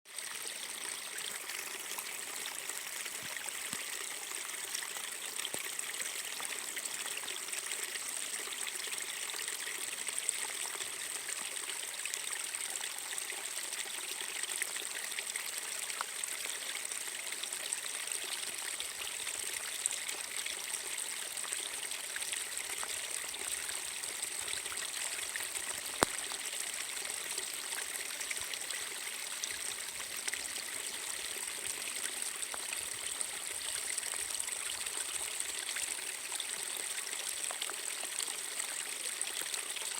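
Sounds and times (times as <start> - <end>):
small waterfall trickling: 0.1 - 39.9.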